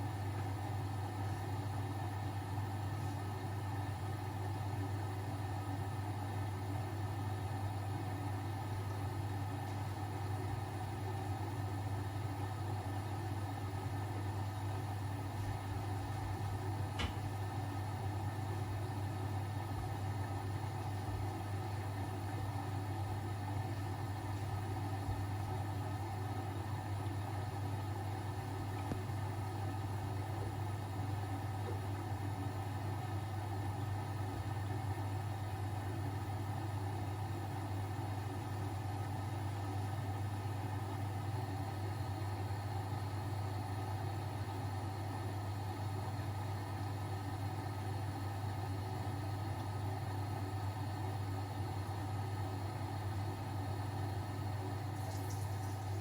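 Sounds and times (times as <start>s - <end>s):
laundry machines humming: 0.0s - 56.0s.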